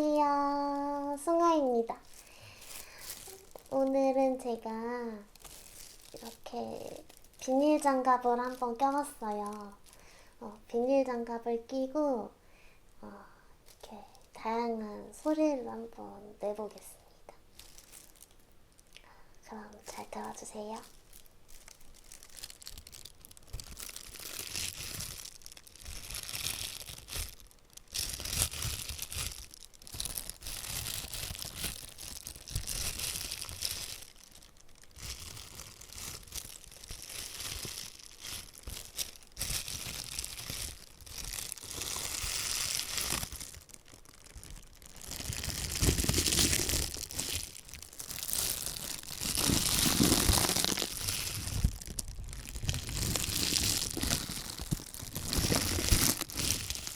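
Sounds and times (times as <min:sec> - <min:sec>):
plastic gloves crinkling: 0:00.0 - 0:12.1, 0:13.6 - 0:56.9.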